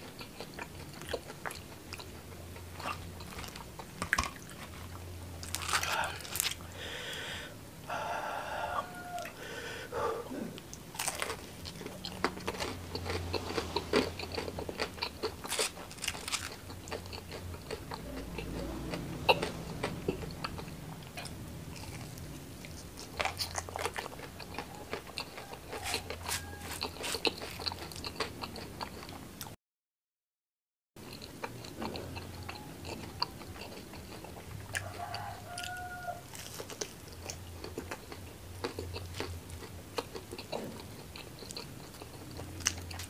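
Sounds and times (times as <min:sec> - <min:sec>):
wet chewing: 0:00.0 - 0:06.9, 0:08.8 - 0:29.5, 0:31.0 - 0:43.0
crunching fried food: 0:00.0 - 0:07.2, 0:10.7 - 0:29.5, 0:31.0 - 0:43.0.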